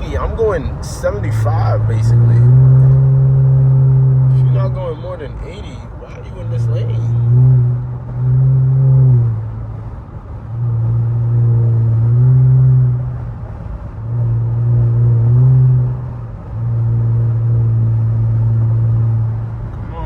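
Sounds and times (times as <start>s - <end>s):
car exhaust drone: 0.0s - 20.0s.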